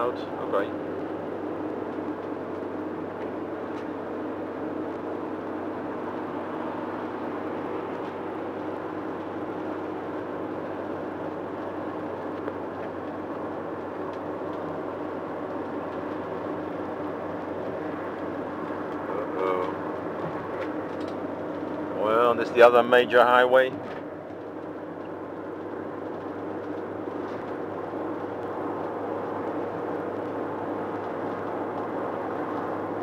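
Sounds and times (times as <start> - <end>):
car engine hum: 0.0 - 33.0.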